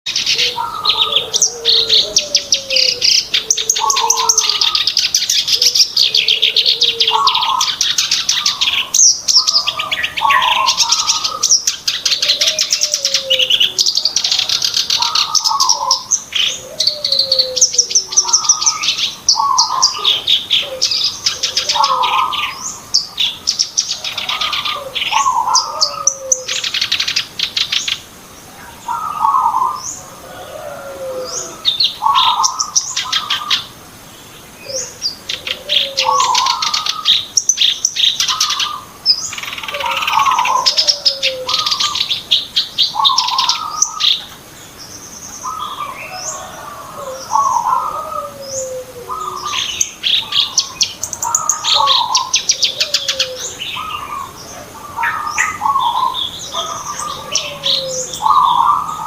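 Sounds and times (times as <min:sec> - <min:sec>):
warbler singing: 0:00.0 - 0:59.0.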